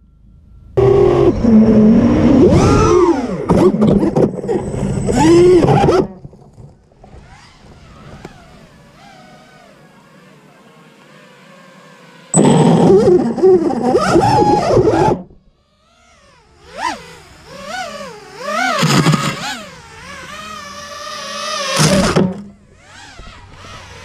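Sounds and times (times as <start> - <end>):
loud motor whine: 0.0 - 24.0
drone motors whirring: 0.7 - 24.0
short motor revs: 0.8 - 24.0.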